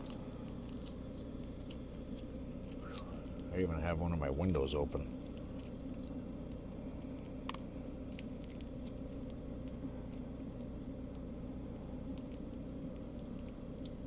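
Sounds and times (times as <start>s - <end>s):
heater fan humming: 0.0s - 14.0s.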